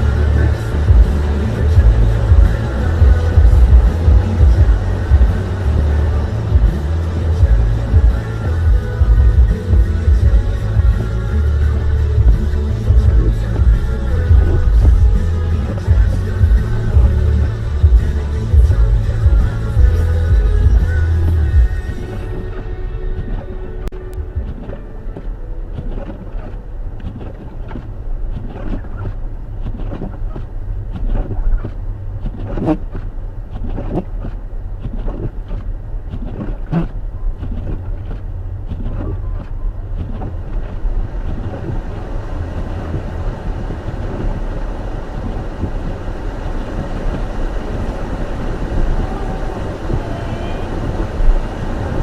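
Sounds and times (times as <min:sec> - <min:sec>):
car tyres and engine rumble: 0:00.0 - 0:52.0.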